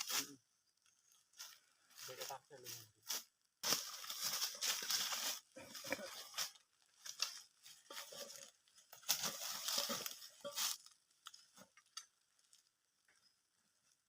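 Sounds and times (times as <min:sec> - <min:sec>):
rustling in dry leaves: 0:00.0 - 0:12.8.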